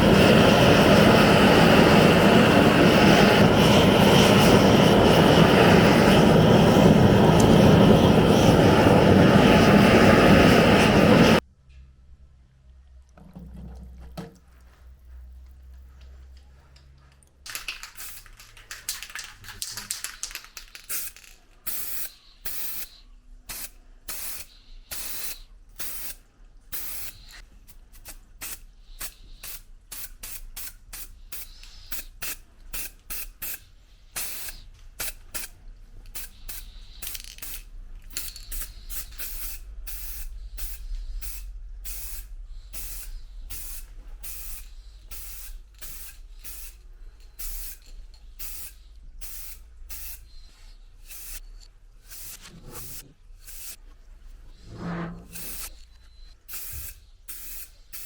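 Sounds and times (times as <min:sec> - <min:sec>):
aerosol spray hissing bursts: 0:00.0 - 0:11.4, 0:20.9 - 0:53.9, 0:54.5 - 0:55.8, 0:56.4 - 0:58.0.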